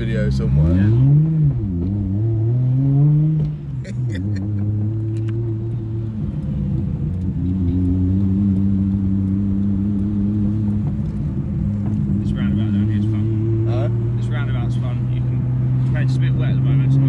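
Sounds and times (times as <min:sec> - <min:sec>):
car engine drone from cabin: 0:00.0 - 0:17.0.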